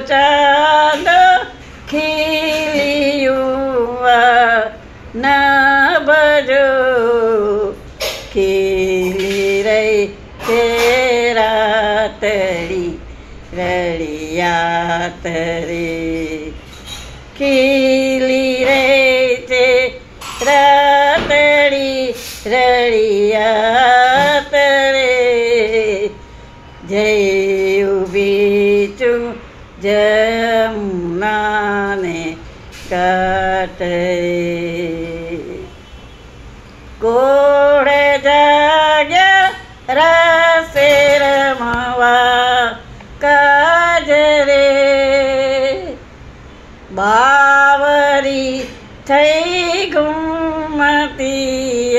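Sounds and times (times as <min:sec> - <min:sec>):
elderly woman singing folk song: 0:00.0 - 0:35.8, 0:37.0 - 0:51.9.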